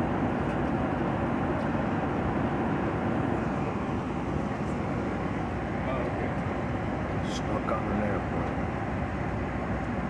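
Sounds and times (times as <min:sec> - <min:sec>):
jet airliner cabin noise: 0:00.0 - 0:10.0.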